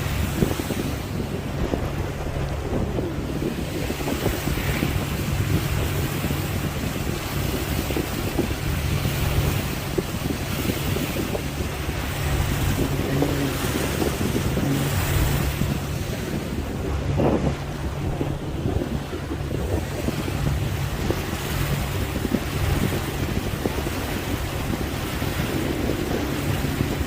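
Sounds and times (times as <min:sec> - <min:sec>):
boat motor humming: 0:00.0 - 0:27.0
rushing water: 0:00.0 - 0:27.0
wind buffeting microphone: 0:00.0 - 0:27.0.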